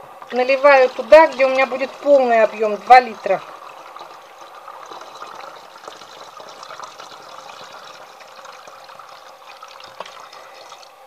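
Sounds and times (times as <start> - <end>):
liquid pouring into plastic bottle: 0.2 - 11.0.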